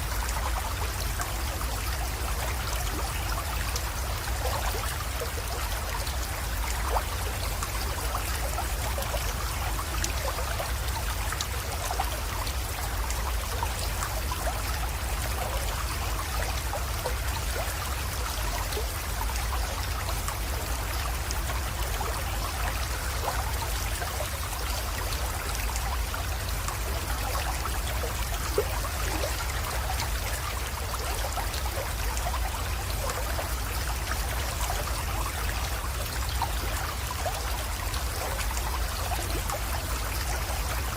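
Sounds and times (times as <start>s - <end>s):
creek trickling over stones: 0.0s - 40.9s.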